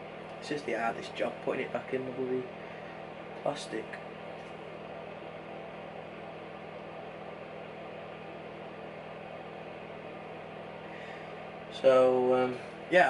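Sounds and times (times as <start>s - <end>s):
mechanical whir with low hum: 0.0s - 13.0s.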